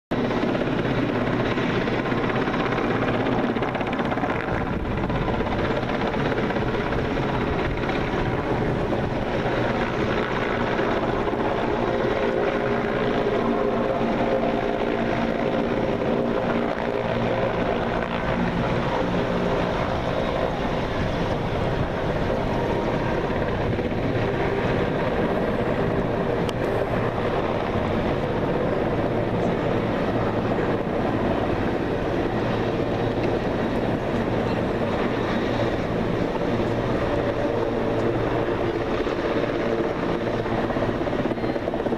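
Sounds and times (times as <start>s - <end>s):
helicopter rotor and turbine: 0.1s - 41.9s.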